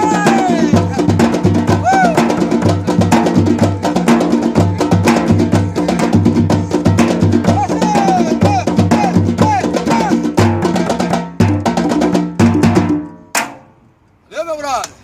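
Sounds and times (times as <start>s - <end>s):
fast hand drum groove: 0.0s - 13.1s.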